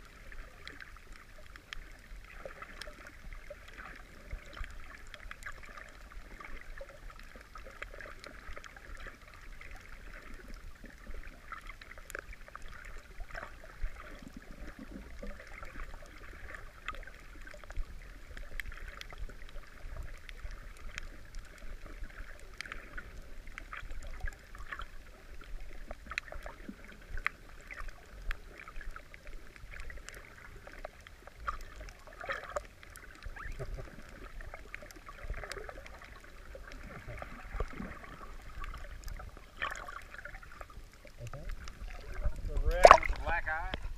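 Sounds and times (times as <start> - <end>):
sharp underwater clicks: 0.6 - 43.9.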